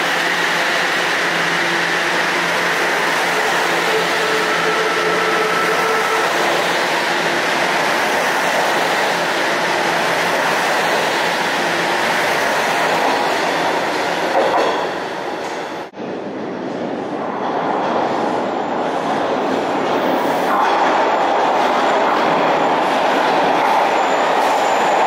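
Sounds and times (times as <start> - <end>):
steel wheels rushing on rail: 0.0 - 25.0.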